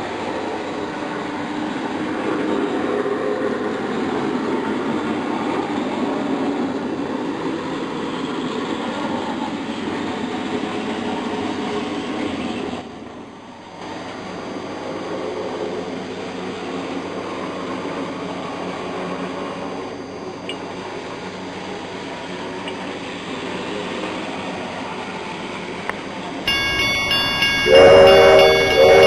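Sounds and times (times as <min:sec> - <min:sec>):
model train wheels and motors rumbling: 0:00.0 - 0:29.0.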